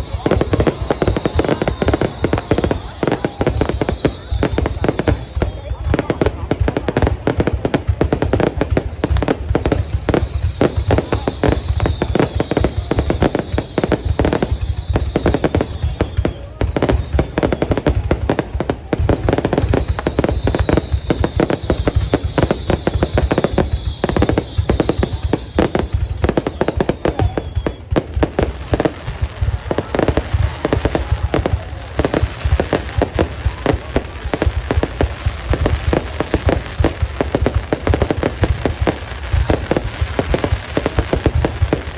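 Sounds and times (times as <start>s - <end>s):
falling firework whistle: 0.0s - 41.9s
fireworks bangs and crackles: 0.0s - 41.9s.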